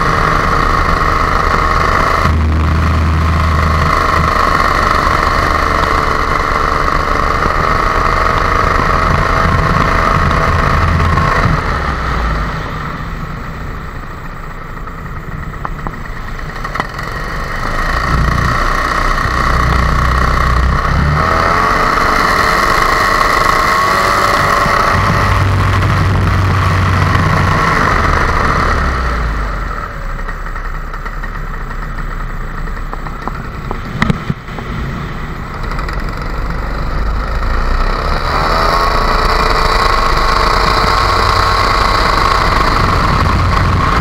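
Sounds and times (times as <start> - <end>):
paramotor engine and propeller: 0.0 - 44.0.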